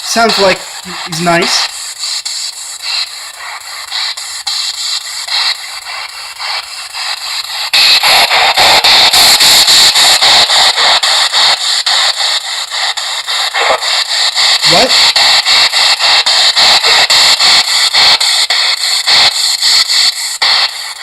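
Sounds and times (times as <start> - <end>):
choppy radio static hiss: 0.0 - 5.7, 7.5 - 19.6.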